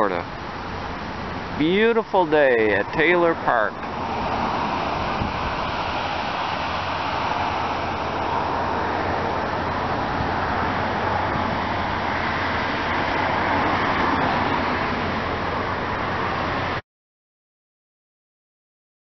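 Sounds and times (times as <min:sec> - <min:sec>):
distant road traffic roar: 0:00.0 - 0:16.8.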